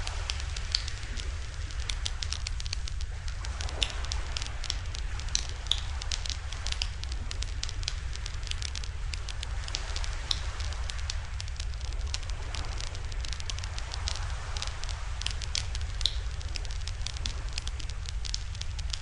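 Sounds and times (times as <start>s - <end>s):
campfire crackling and popping: 0.0s - 19.0s
steady low rumble: 0.0s - 19.0s.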